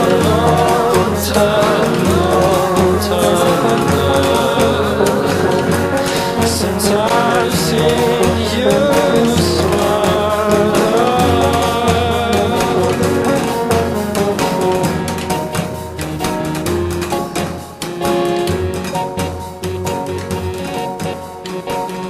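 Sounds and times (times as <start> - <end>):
song with steady beat: 0.0 - 22.0.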